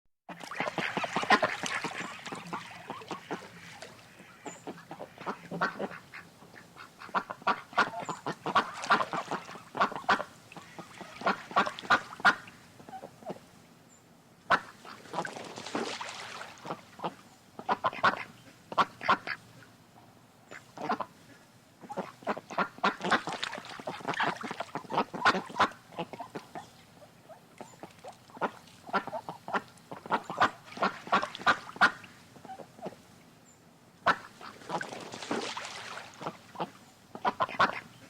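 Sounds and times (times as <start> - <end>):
ducks quacking: 0.3 - 13.4, 14.5 - 19.4, 20.5 - 33.0, 34.0 - 38.0.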